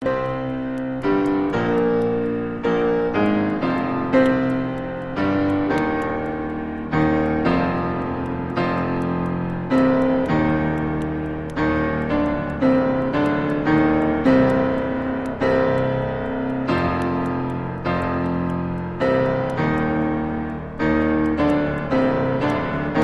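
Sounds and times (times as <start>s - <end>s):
electric piano tune: 0.0s - 23.0s
faint ticking beat: 0.0s - 23.0s.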